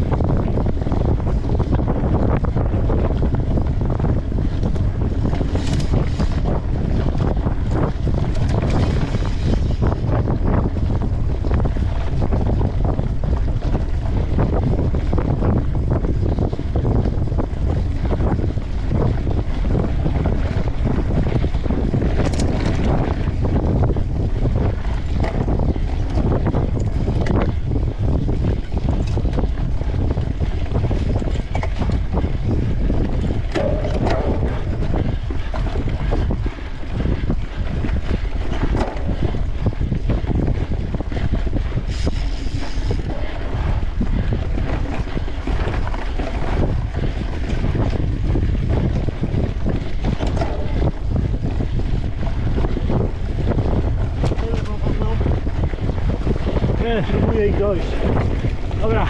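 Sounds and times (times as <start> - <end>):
bike rattling over rough ground: 0.0 - 59.0
wind buffeting microphone: 0.0 - 59.0.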